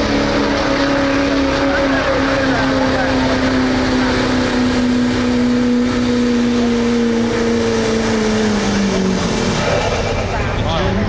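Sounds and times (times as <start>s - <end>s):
truck engine high revs: 0.0s - 11.0s.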